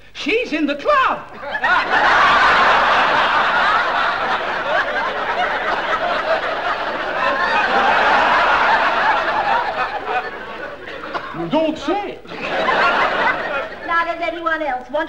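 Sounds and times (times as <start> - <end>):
audience laughing: 1.4 - 14.4.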